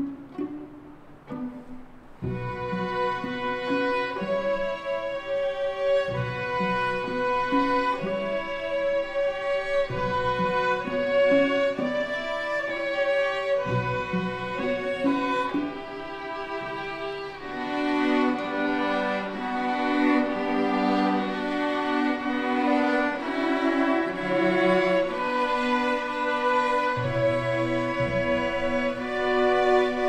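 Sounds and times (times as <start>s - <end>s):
string orchestra playing held notes: 0.0s - 30.0s.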